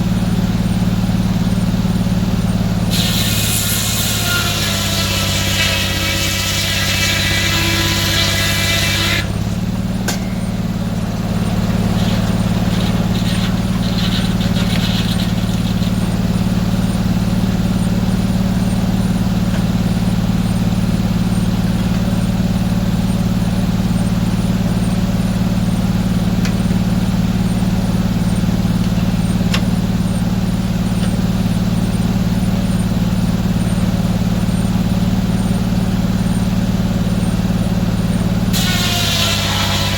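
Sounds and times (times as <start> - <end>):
saw blade whining through log: 0.0 - 39.9
sawmill engine humming: 0.0 - 39.9.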